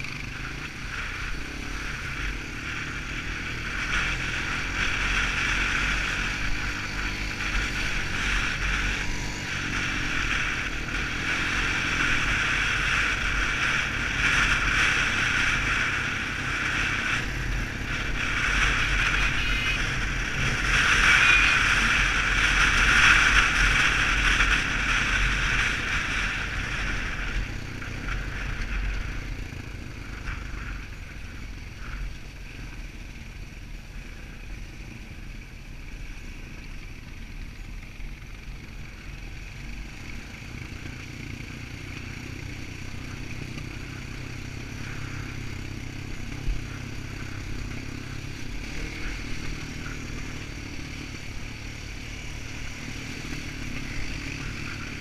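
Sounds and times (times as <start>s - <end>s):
quad bike engine: 0.0s - 55.0s.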